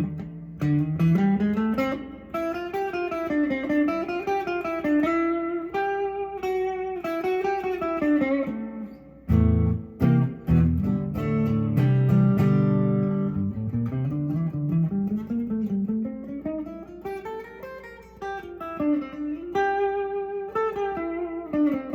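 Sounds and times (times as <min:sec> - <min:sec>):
guitar picked melody: 0:00.0 - 0:21.9
low guitar chords: 0:00.0 - 0:21.9.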